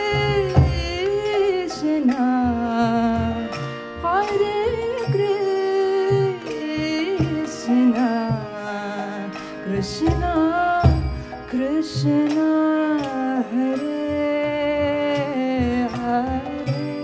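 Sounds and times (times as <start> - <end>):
harmonium drone: 0.0 - 17.0
woman singing: 0.0 - 17.0.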